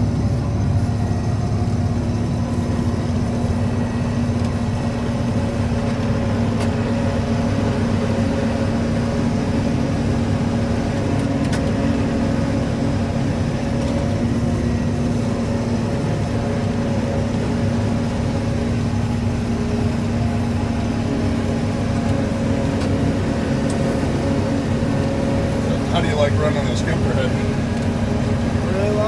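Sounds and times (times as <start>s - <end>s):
forage harvester droning: 0.0s - 29.0s.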